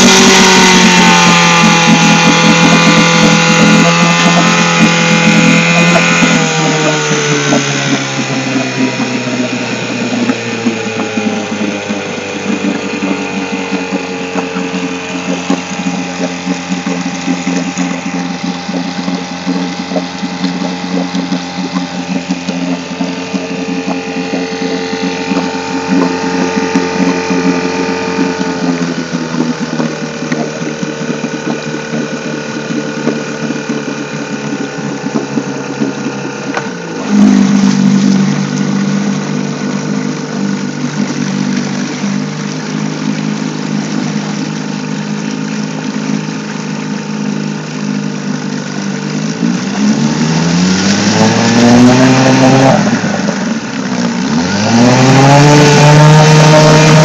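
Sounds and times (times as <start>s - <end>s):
outboard motor running: 0.0s - 57.0s
propeller churning water: 0.0s - 57.0s.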